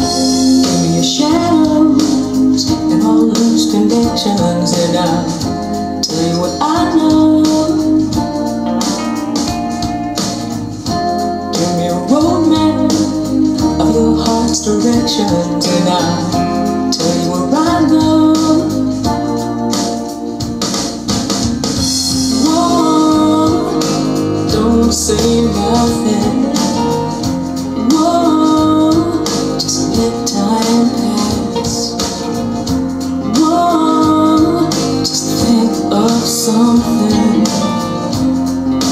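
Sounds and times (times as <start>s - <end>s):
song over loudspeakers: 0.0s - 38.9s.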